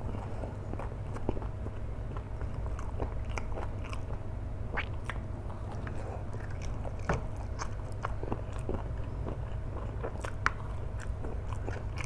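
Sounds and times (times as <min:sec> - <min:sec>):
chewing noodles: 0:00.0 - 0:12.0.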